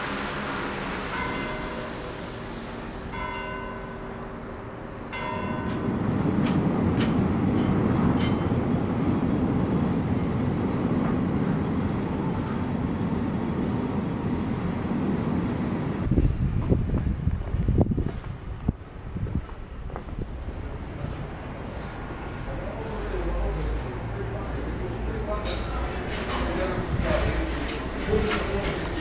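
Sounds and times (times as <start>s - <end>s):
train rumbling across bridge: 0.0s - 29.0s.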